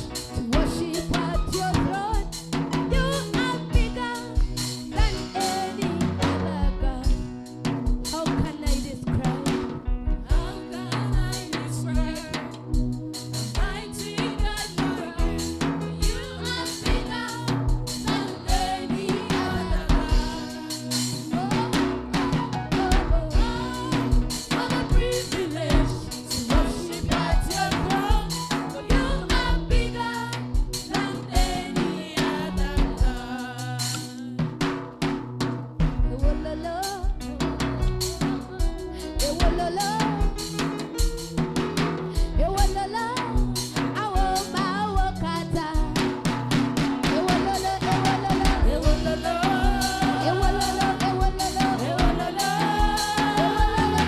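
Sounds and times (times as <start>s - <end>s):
gospel band music: 0.0s - 54.0s.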